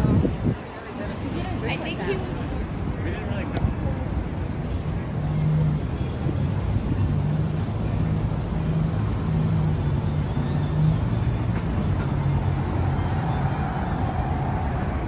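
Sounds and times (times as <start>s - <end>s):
street traffic engine hum: 0.0s - 15.0s.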